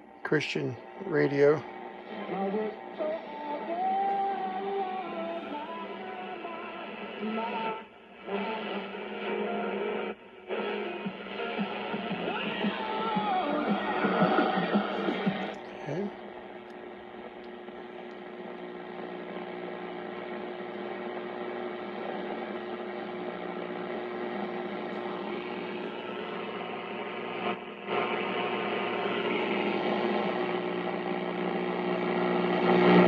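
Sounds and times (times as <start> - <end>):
radio static: 0.0 - 3.0, 8.4 - 33.0
mains hum: 0.0 - 33.0.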